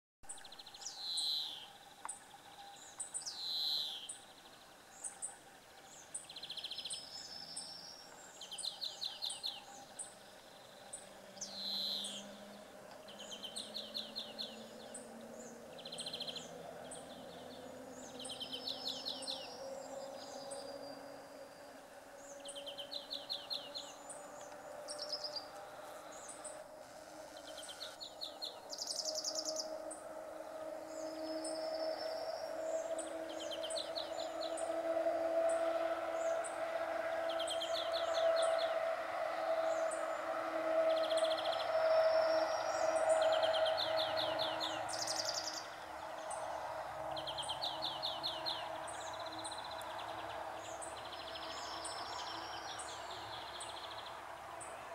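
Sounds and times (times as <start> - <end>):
songbirds singing: 0.2 - 54.9.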